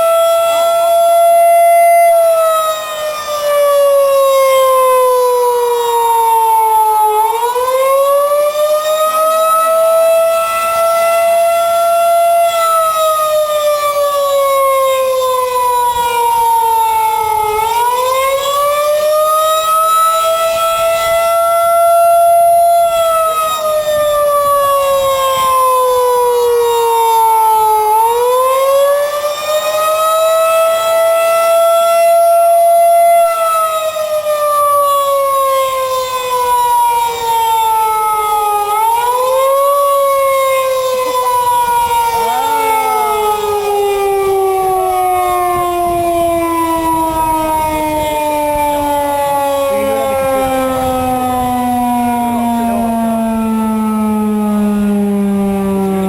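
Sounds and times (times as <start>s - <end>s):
tornado siren wailing: 0.0s - 56.0s.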